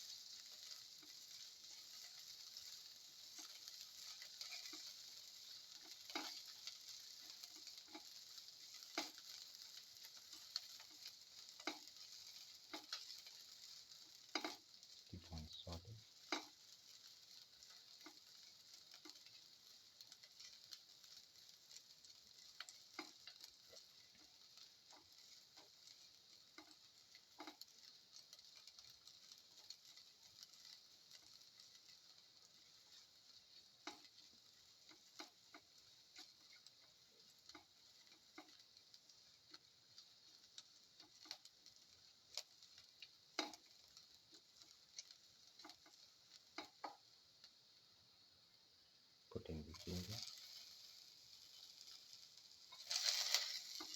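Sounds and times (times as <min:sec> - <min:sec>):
sizzling in hot oil: 0:00.0 - 0:53.9
stirring clicks in a pan: 0:00.0 - 0:53.9.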